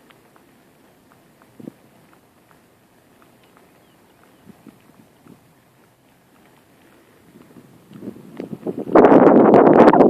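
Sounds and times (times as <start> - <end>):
light ticks: 0.0 - 8.8
soft footsteps: 0.0 - 10.0.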